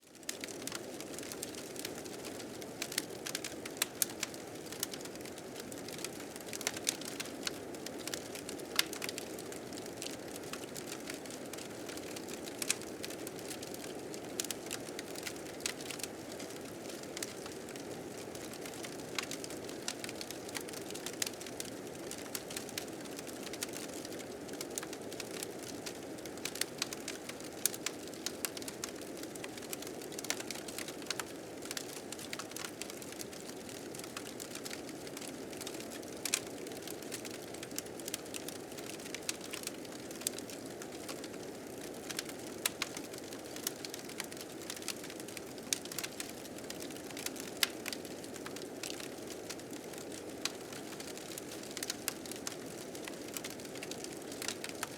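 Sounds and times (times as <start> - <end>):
fire crackling and popping: 0.2 - 54.9.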